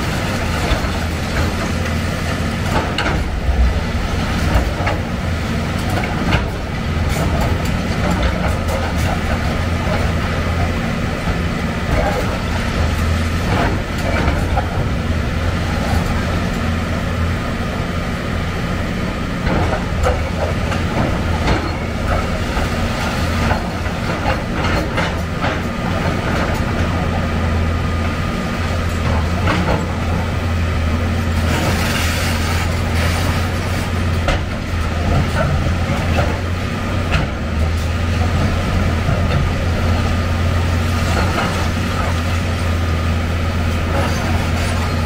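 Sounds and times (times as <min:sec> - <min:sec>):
excavator engine running: 0:00.0 - 0:45.0.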